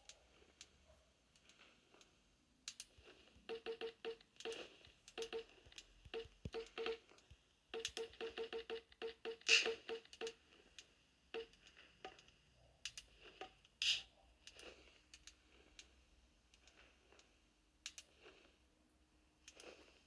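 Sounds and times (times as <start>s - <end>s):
cracks and clicks: 1.3s - 15.9s, 16.5s - 18.4s.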